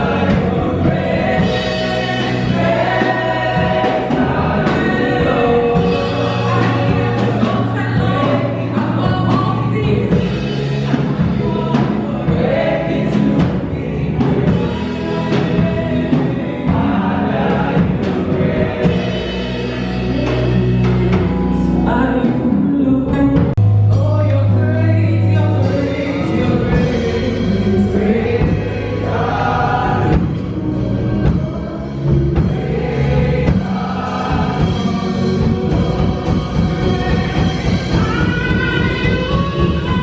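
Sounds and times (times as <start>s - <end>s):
gospel choir singing: 0.0s - 23.6s, 24.4s - 40.0s
held bass and keyboard notes: 0.0s - 40.0s.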